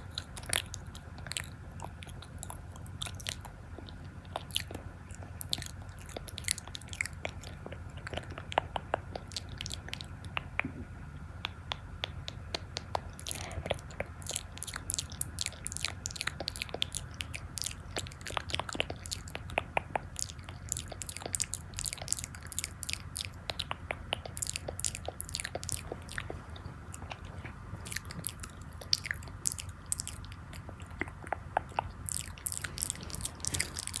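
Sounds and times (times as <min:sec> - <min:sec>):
crunchy bites and chewing: 0:00.0 - 0:10.4, 0:12.2 - 0:34.0.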